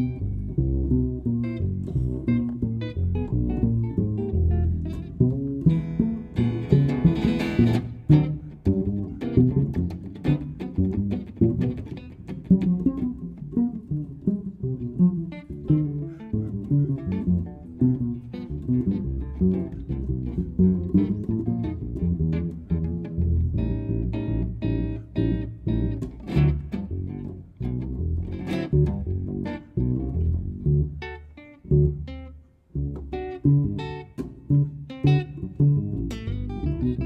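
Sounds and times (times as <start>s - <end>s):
double bass and electric guitar jazz: 0.0s - 37.0s.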